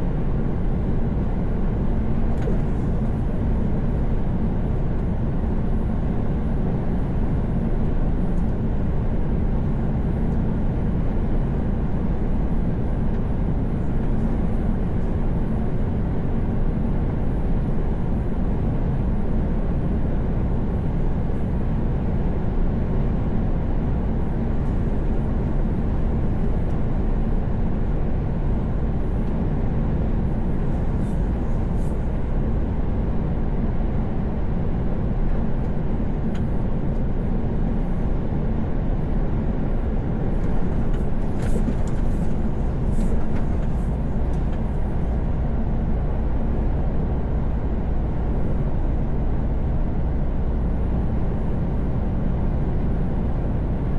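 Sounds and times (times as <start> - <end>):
heavy truck engine and road drone: 0.0 - 53.9.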